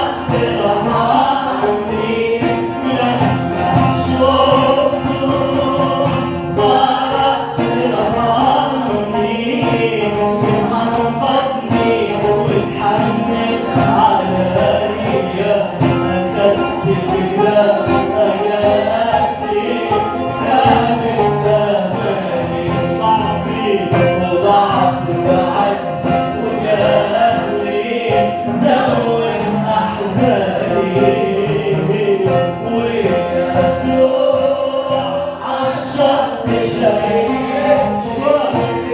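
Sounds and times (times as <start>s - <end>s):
choir singing a hymn: 0.0s - 38.9s
steady percussive beat: 0.0s - 38.9s.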